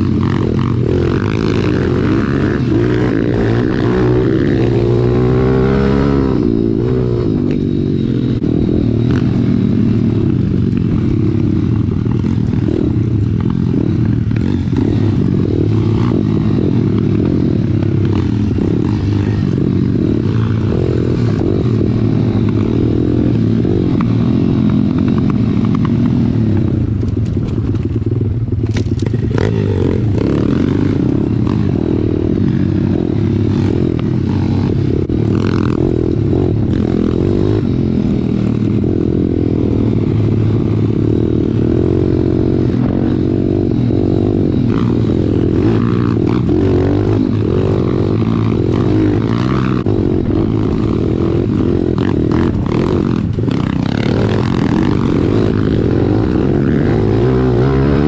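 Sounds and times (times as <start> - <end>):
small motorcycle engine revving: 0.0 - 58.0.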